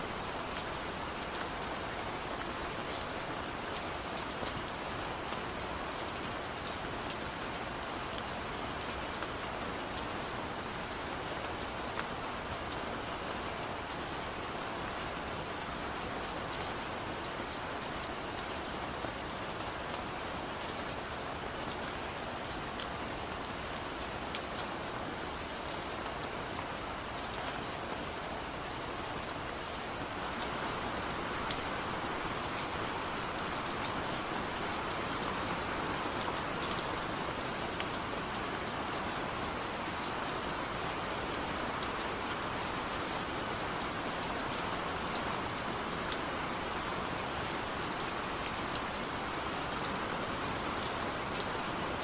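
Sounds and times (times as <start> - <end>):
raindrops ticking on a surface: 0.0 - 52.0
steady rain hiss: 0.0 - 52.0.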